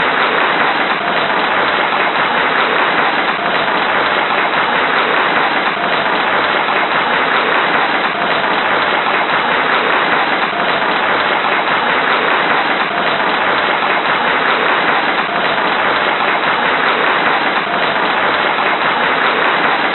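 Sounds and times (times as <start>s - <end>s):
crowd applauding: 0.0s - 19.9s.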